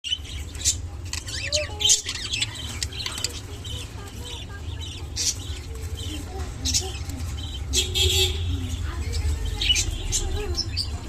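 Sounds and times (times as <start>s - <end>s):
budgerigar chirping and chattering: 0.0s - 11.0s.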